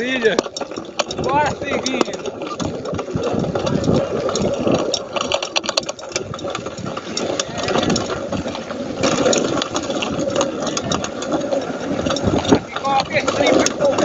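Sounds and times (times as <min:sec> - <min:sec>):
quick rattling clicks: 0:00.0 - 0:14.0
steady rumbling: 0:00.0 - 0:14.0.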